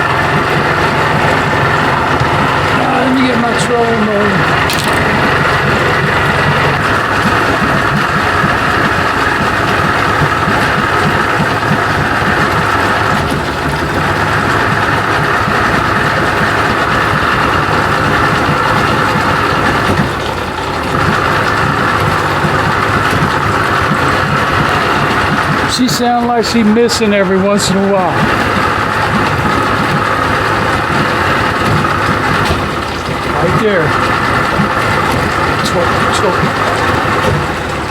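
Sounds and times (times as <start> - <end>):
outboard motor idling: 0.0 - 37.9.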